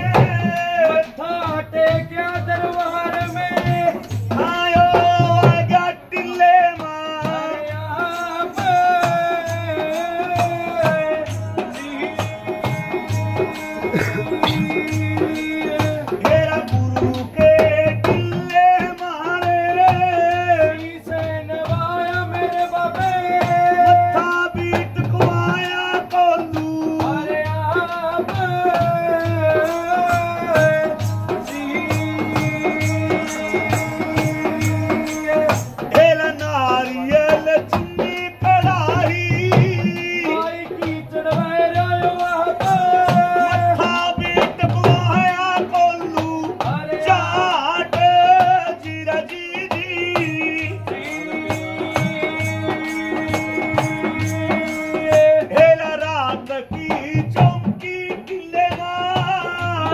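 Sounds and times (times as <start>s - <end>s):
man singing folk song: 0.0s - 59.9s
rattling percussion beat: 0.0s - 59.9s.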